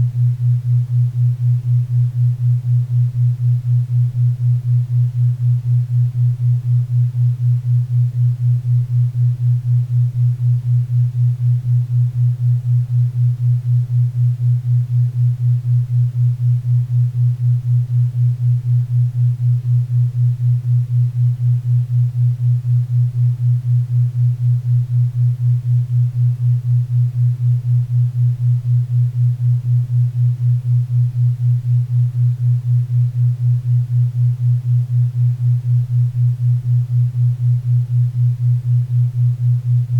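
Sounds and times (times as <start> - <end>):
pulsing low hum: 0.0 - 39.9.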